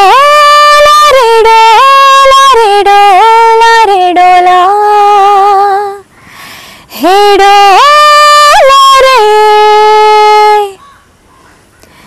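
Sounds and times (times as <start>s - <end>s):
woman singing alone: 0.0s - 6.1s, 6.9s - 10.8s.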